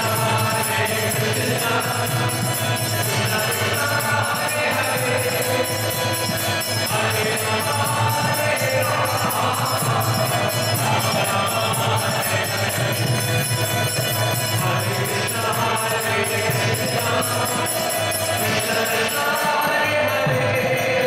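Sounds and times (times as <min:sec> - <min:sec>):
hand cymbals ringing: 0:00.0 - 0:21.0
harmonium playing: 0:00.0 - 0:21.0
people singing: 0:00.0 - 0:21.0.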